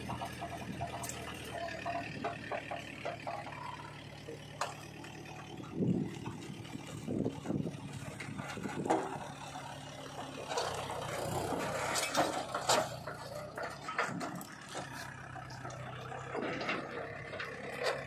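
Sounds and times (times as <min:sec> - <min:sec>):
diesel tractor engine running: 0:00.0 - 0:18.0.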